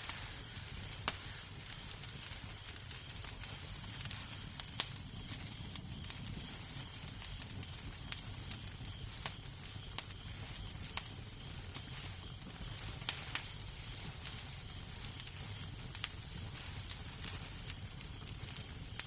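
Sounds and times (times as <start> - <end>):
fire rumble and hiss: 0.0 - 19.0
wood fire crackling: 0.0 - 19.0.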